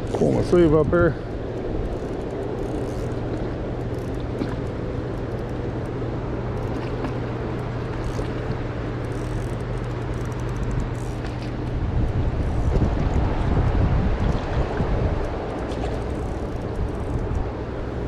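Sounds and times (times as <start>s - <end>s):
constant low hum: 0.0s - 18.0s
wind buffeting microphone: 0.0s - 18.0s.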